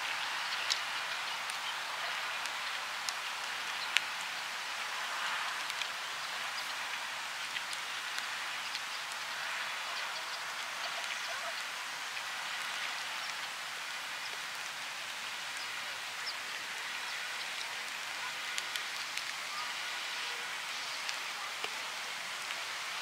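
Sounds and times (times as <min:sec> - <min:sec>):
faint ticks and patters: 0:00.0 - 0:23.0.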